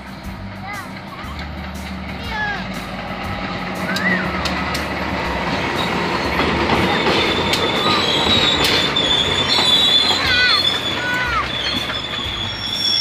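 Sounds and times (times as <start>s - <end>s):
diesel locomotive passing: 0.0s - 13.0s
wheels clicking over rail joints: 0.0s - 13.0s
high wheel squeal: 2.3s - 13.0s.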